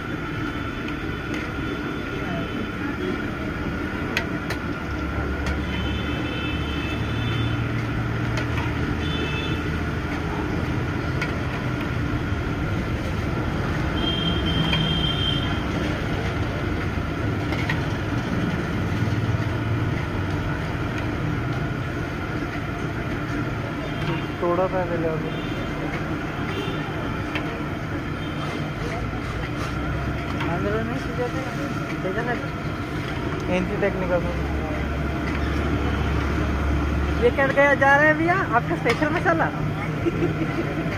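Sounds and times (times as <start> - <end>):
deep-frying oil sizzle: 0.0 - 40.9
road traffic rumble: 0.0 - 40.9.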